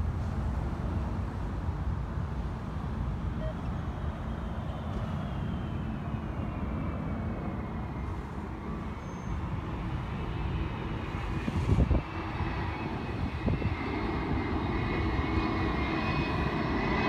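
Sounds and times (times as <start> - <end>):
high engine whine: 0.0 - 17.0
jet engines rumbling: 0.0 - 17.0.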